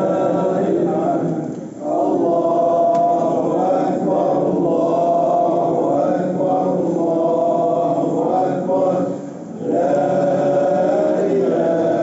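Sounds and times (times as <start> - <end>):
voices chanting: 0.0 - 12.0.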